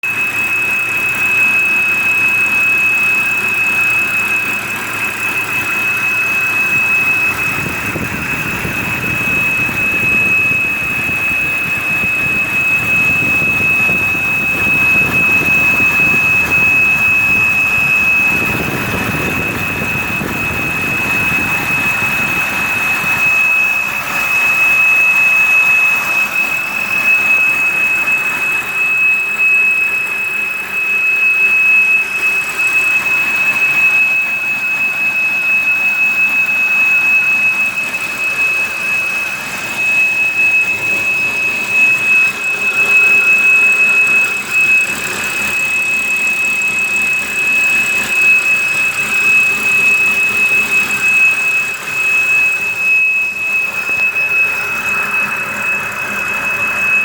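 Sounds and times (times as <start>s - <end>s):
car engine running: 0.0s - 57.0s
high-pitched whine: 0.0s - 57.0s.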